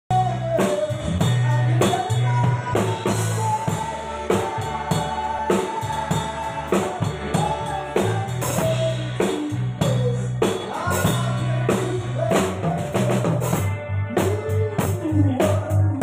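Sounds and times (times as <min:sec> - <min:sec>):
bass line: 0:00.1 - 0:16.0
drum kit beat: 0:00.1 - 0:16.0
live band playing: 0:00.1 - 0:16.0.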